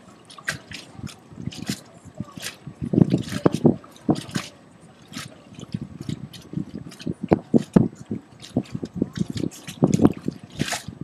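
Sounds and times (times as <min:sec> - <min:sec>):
waves slapping against wooden dock: 0:00.0 - 0:11.0.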